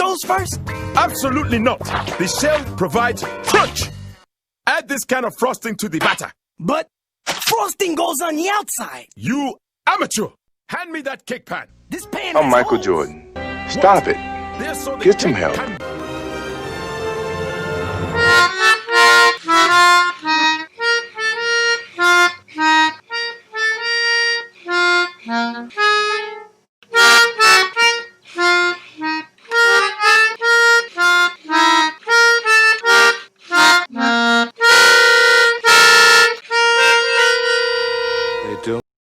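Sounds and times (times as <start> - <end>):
reedy instrumental melody: 0.0 - 4.2, 11.7 - 38.8.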